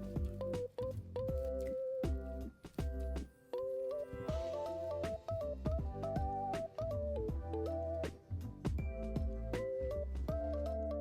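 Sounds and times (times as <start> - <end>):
gentle background music: 0.0 - 11.0.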